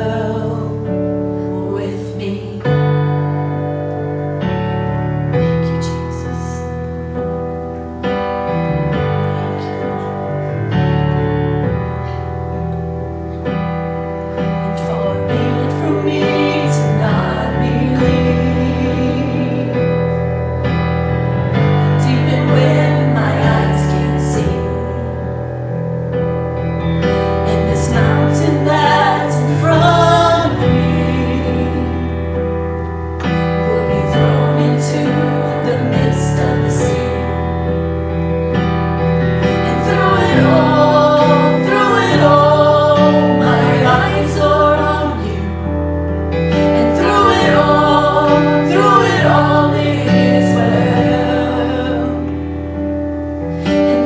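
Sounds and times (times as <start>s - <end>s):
people singing: 0.0s - 3.3s, 8.7s - 10.8s, 14.4s - 25.8s, 26.8s - 52.9s, 53.6s - 54.0s
piano: 0.0s - 54.0s
worship band playing: 7.7s - 54.0s.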